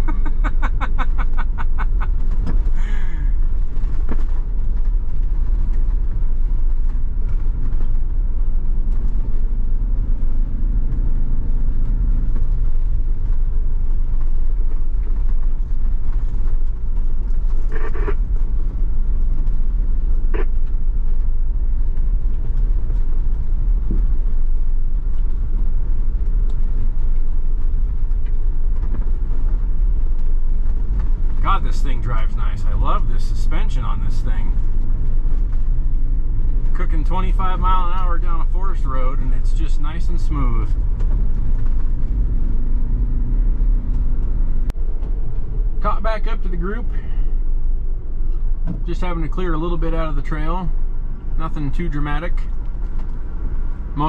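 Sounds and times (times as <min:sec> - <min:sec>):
engine and tyres rumbling: 0:00.0 - 0:54.0.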